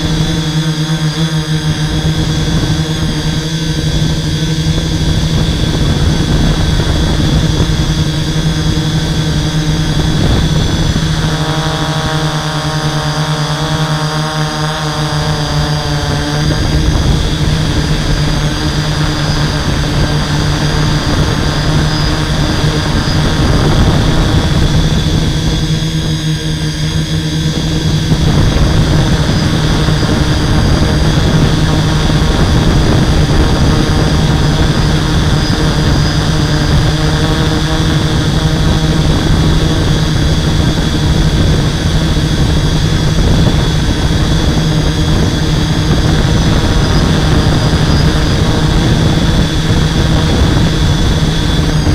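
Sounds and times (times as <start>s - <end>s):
drone motors humming: 0.0s - 51.9s.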